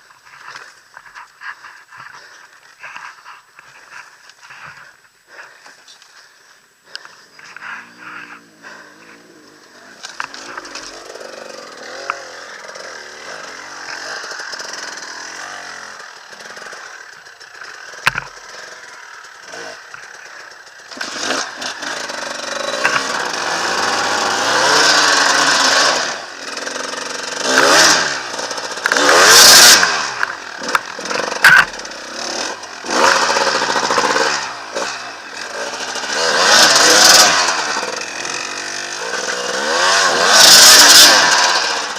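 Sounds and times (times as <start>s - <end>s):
dirt bike engine revving: 7.0s - 41.9s.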